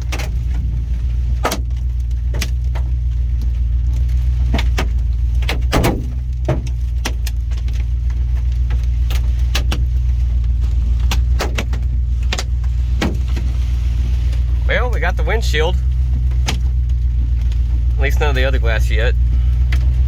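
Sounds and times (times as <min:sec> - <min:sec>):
hailstones banging on vehicle: 0:00.0 - 0:20.0
steady low rumble: 0:00.0 - 0:20.0.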